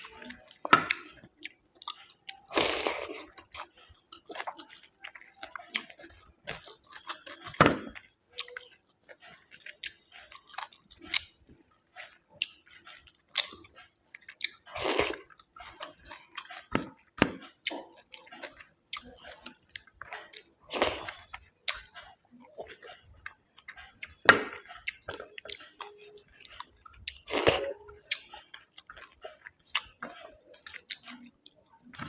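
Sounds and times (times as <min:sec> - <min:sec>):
wet mouth chewing: 0:00.0 - 0:32.0.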